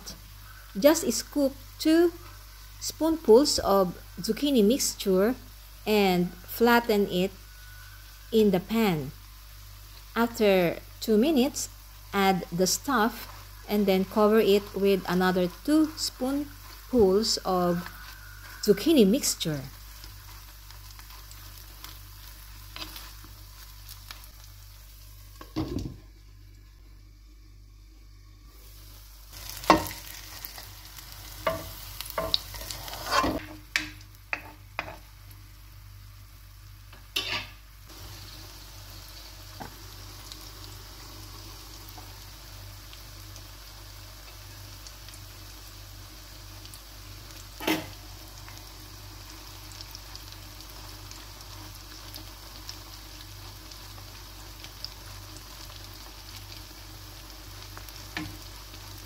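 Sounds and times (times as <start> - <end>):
batter sizzling in frying pan: 0.0 - 26.8, 28.5 - 59.0.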